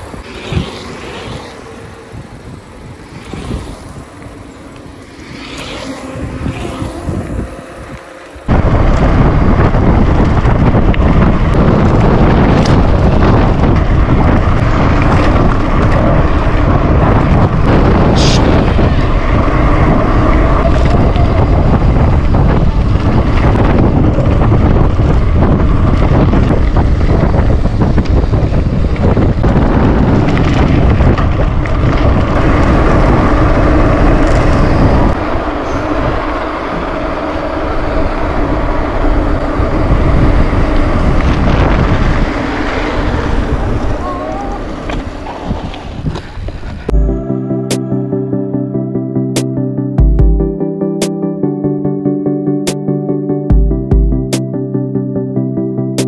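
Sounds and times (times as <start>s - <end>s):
wind buffeting microphone: 0.0s - 47.6s
road noise: 0.0s - 56.0s.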